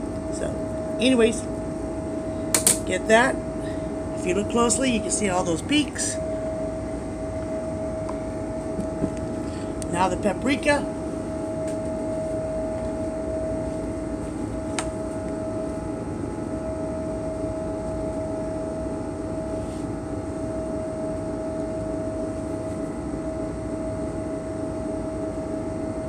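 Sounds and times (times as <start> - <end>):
machinery hum with whine: 0.0 - 26.0.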